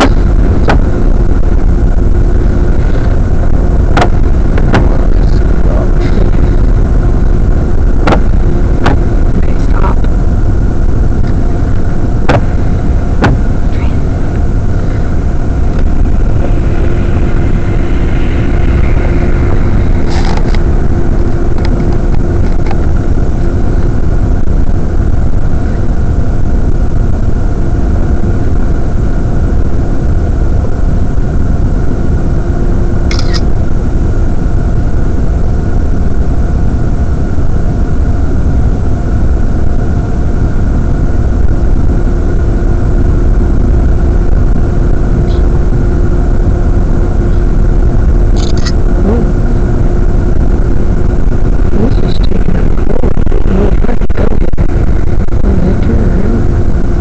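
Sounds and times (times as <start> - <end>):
engine and tyres rumbling: 0.0 - 57.0
faint steady hum: 0.0 - 57.0.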